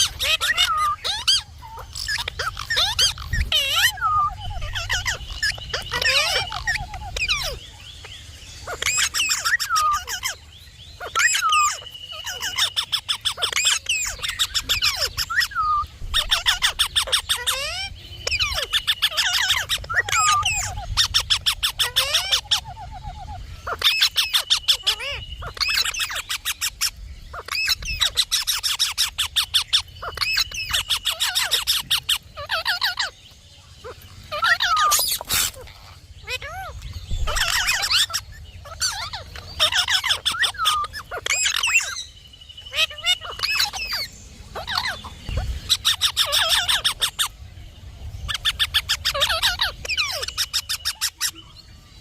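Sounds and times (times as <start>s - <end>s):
parakeet chattering and whistling: 0.0s - 47.4s, 48.1s - 51.7s.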